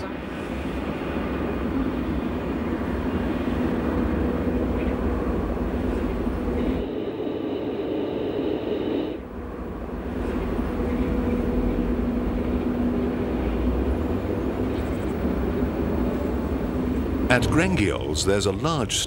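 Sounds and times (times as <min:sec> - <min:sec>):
electric train hum: 0:00.0 - 0:19.0
low train rumble: 0:00.0 - 0:19.0.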